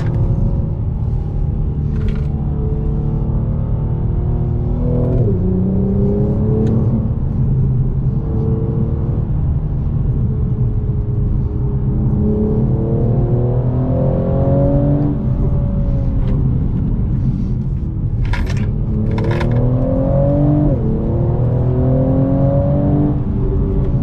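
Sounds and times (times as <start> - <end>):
car engine accelerating: 0.0 - 24.0
low road rumble: 0.0 - 24.0.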